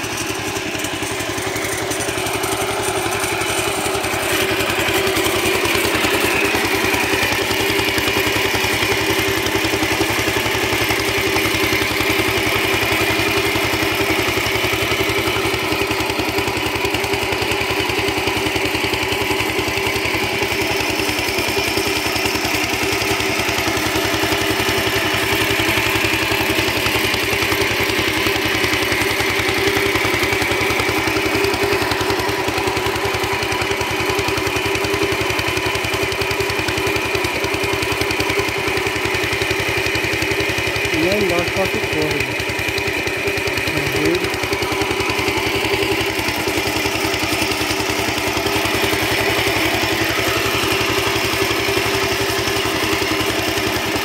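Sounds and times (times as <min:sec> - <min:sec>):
small engine running steadily: 0:00.0 - 0:54.0.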